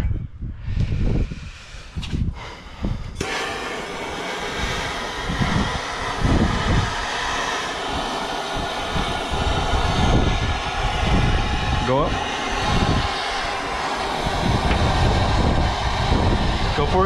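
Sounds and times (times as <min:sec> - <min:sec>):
gas torch hissing: 0:00.7 - 0:17.0.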